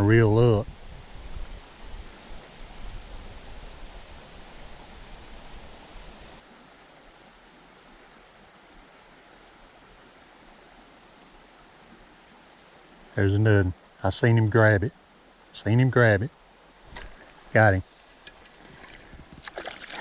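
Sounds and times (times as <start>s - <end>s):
crickets chirping: 0.0s - 20.0s
faint hiss: 0.0s - 20.0s.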